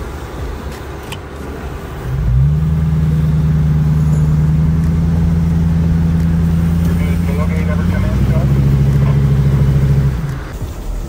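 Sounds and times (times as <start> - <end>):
engine revving under load: 1.9 - 11.0.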